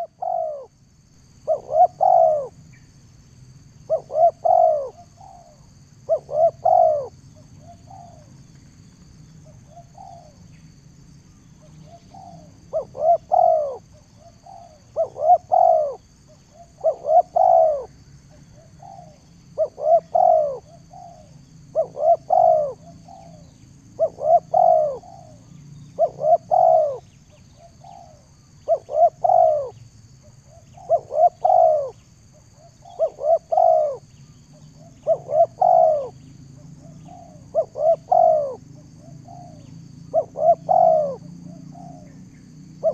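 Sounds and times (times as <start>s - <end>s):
dove cooing: 0.0s - 0.8s, 1.4s - 2.8s, 3.9s - 10.5s, 11.6s - 42.9s.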